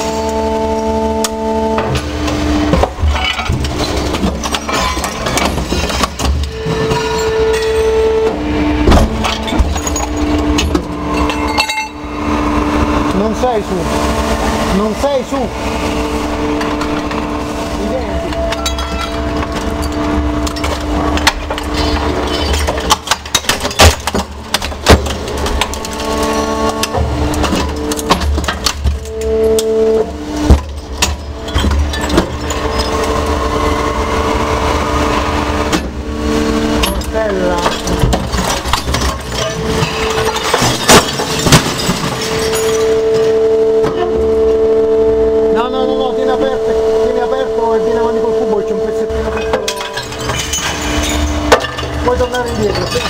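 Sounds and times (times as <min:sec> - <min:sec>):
crusher machine humming: 0:00.0 - 0:53.0.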